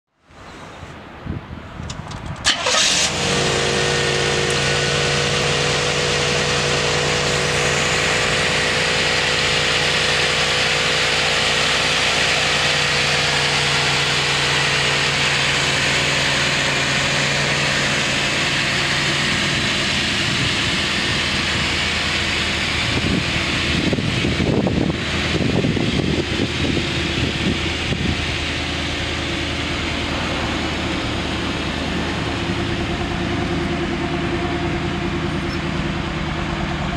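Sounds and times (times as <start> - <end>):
car engine idling: 1.8 - 36.9.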